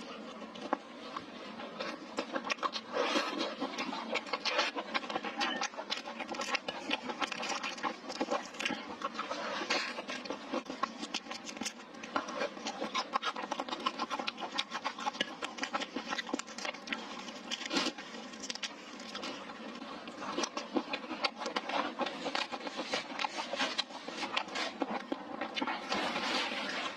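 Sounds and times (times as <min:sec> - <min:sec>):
wet chewing: 0:00.0 - 0:26.9.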